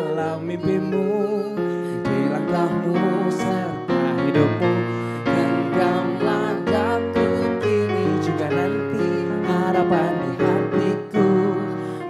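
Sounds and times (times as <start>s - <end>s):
electric piano chords: 0.0s - 12.0s
man and woman singing duet: 0.0s - 12.0s.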